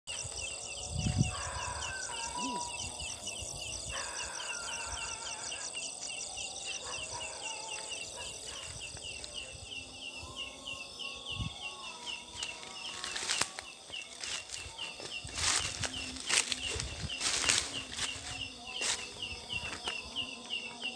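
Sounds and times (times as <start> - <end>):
insect chirping rapidly: 0.1 - 20.9.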